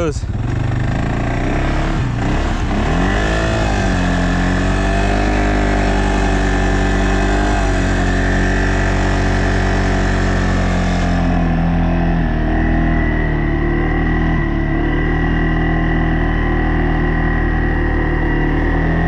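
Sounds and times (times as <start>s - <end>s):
atv engine in snow: 0.0s - 19.0s.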